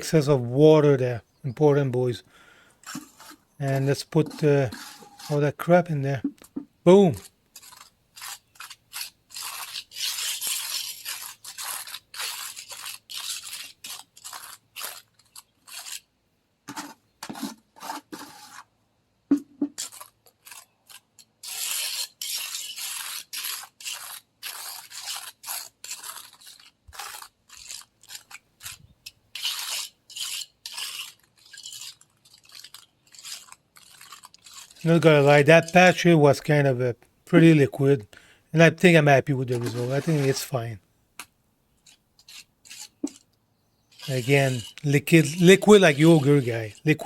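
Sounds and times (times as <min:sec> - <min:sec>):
trowel scraping wet cement: 0:00.0 - 0:16.1, 0:16.7 - 0:18.7, 0:19.3 - 0:47.0.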